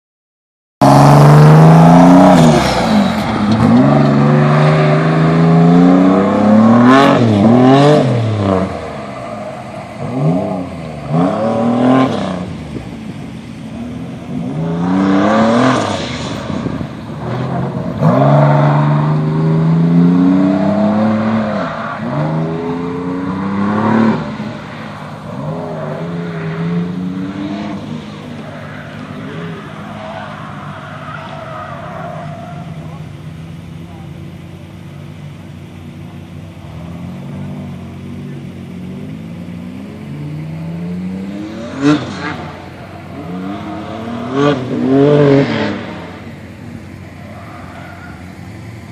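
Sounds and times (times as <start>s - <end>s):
car engine revving: 0.8s - 48.9s.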